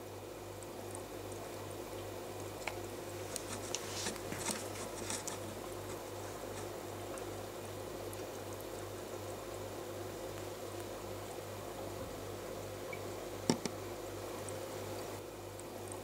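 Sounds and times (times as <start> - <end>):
aquarium pump humming: 0.0 - 16.0
faint watery hiss: 0.0 - 16.0
small ticks and crackles: 0.0 - 16.0.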